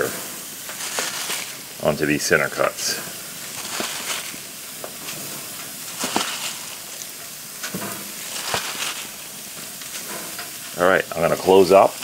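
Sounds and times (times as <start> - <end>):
pork chops sizzling on a grill: 0.0 - 12.0.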